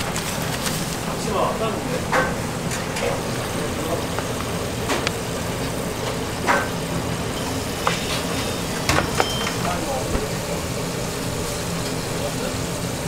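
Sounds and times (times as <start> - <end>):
low kitchen drone: 0.0 - 13.0.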